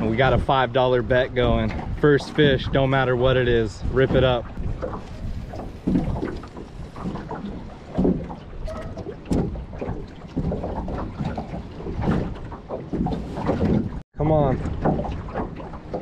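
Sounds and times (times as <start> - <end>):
water lapping against boat hull: 0.0 - 16.0
wind buffeting microphone: 0.0 - 16.0
knocks in boat: 1.4 - 16.0.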